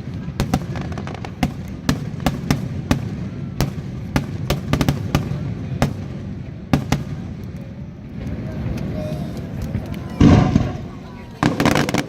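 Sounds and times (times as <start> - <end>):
continuous low rumble: 0.0 - 12.0
fireworks bangs and crackles: 0.0 - 12.0.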